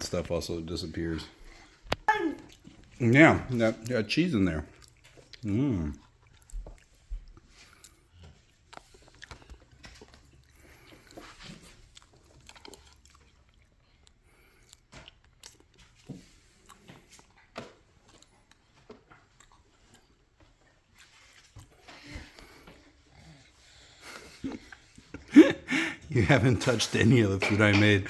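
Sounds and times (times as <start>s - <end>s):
person chewing: 1.4s - 25.9s.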